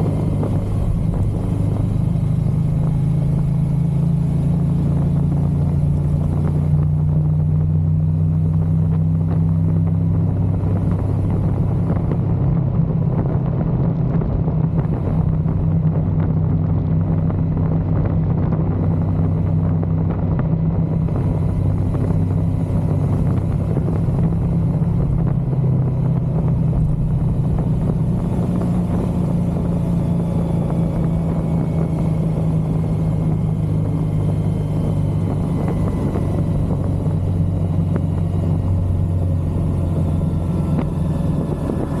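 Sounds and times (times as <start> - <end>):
motorcycle engine droning: 0.0 - 42.0
wind and road noise: 0.0 - 42.0.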